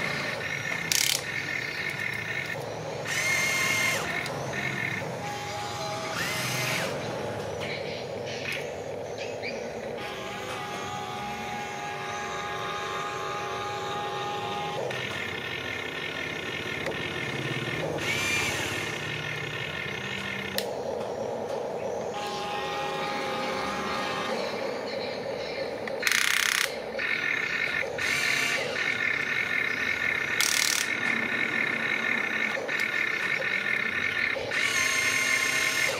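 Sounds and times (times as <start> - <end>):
electric motors whining: 0.0 - 35.9.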